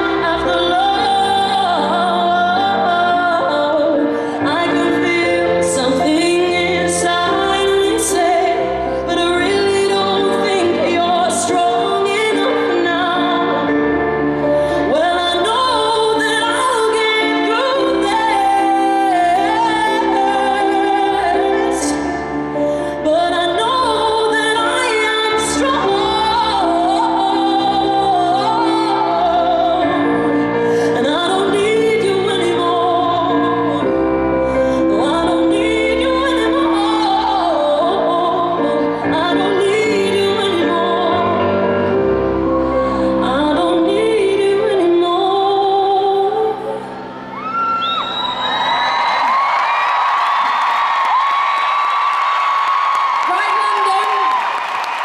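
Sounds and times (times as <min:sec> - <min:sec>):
grand piano accompaniment: 0:00.0 - 0:55.0
woman singing ballad: 0:00.0 - 0:55.0.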